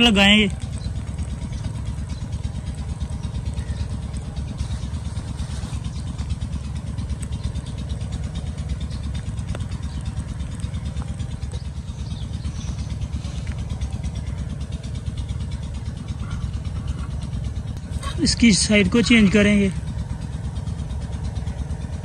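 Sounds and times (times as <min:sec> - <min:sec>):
pulsing low motor rumble: 0:00.0 - 0:22.0.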